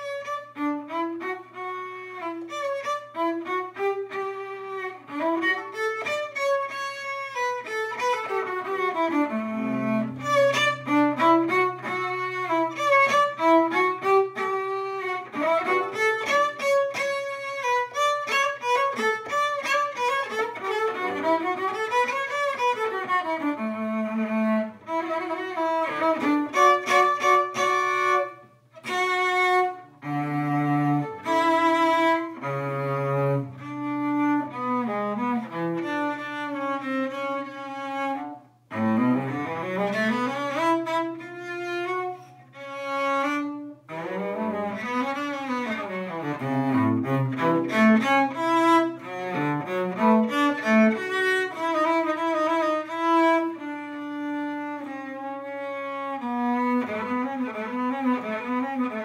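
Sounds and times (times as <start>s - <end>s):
solo cello bowed: 0.0s - 59.0s.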